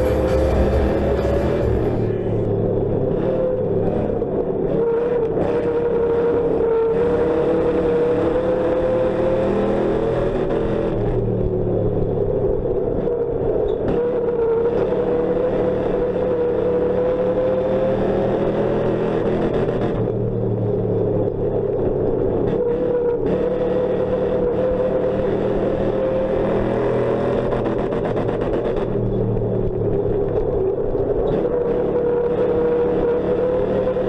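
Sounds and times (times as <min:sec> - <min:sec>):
race car engine running hard: 0:00.0 - 0:34.0.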